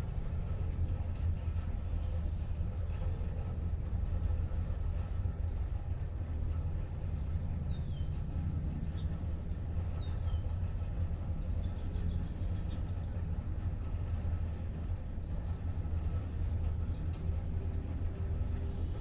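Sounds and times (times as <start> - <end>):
light rain: 0.0 - 19.0
steady low rumble: 0.0 - 19.0
small birds chirping: 0.1 - 5.7, 7.0 - 19.0.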